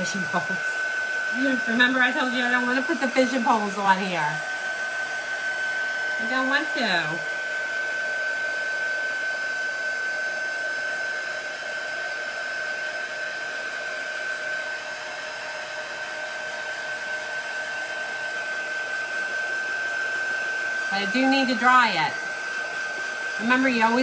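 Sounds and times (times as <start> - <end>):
heat tool blowing with high whine: 0.0 - 24.0.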